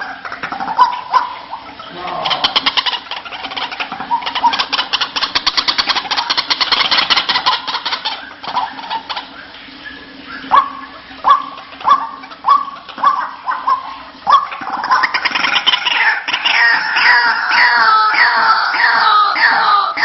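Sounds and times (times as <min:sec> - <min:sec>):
waterhen calling: 0:00.0 - 0:20.0.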